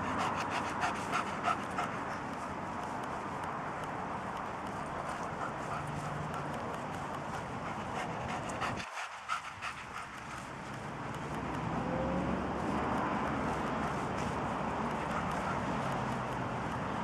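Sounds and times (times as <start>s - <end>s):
dog panting: 0.0s - 11.6s, 12.6s - 17.0s
steady rushing background: 0.0s - 17.0s.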